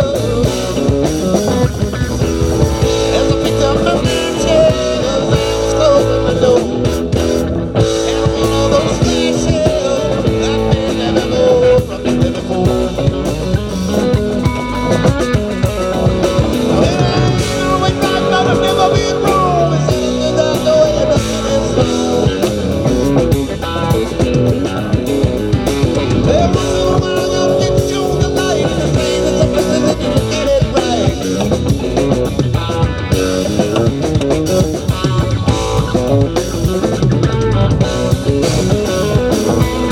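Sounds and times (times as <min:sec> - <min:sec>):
bass guitar: 0:00.0 - 0:39.9
drum kit: 0:00.0 - 0:39.9
electric guitar with bent notes: 0:00.0 - 0:39.9.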